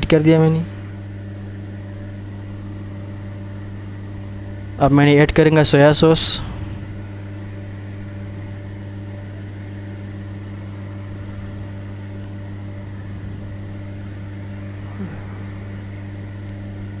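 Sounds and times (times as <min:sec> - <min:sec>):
kitchen equipment humming: 0:00.0 - 0:17.0.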